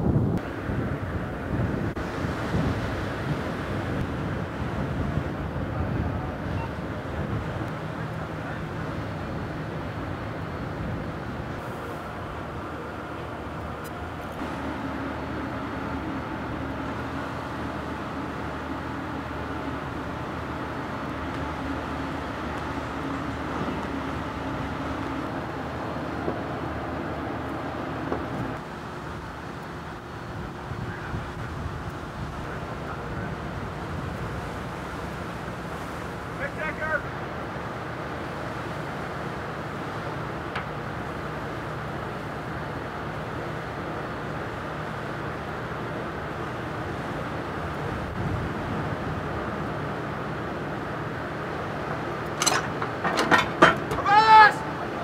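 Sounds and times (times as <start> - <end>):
rushing water: 0.0 - 55.0
wind: 0.0 - 55.0
machinery hum: 0.2 - 55.0.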